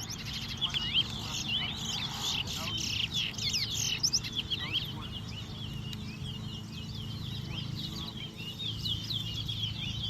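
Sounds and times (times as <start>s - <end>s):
finches chirping and trilling: 0.0s - 10.0s.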